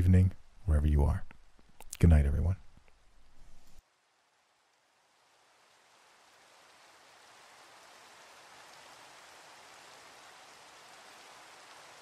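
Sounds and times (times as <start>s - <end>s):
steady rainfall: 0.0s - 12.0s.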